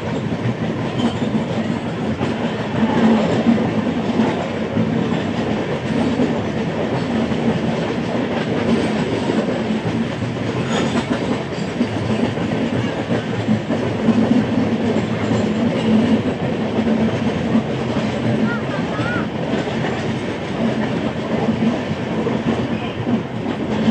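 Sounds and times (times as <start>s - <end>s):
train wheels on track: 0.0s - 23.9s.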